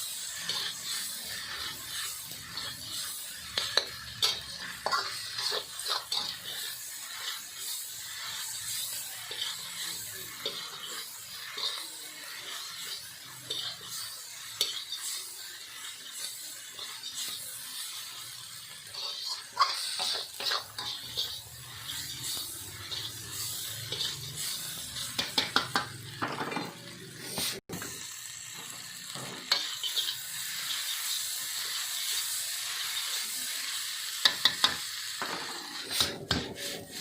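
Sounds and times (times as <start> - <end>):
metal utensil scraping a pan: 0.0 - 27.9, 28.7 - 33.3, 34.1 - 37.0
food sizzling in a pan: 0.0 - 37.0.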